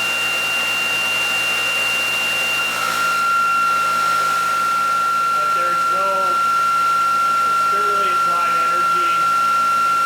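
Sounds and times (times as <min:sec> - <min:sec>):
electric motor whine: 0:00.0 - 0:10.0.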